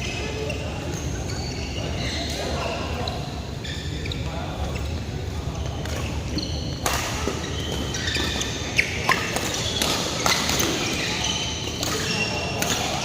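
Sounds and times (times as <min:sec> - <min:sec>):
shoes squeaking on floor: 0:00.0 - 0:13.0.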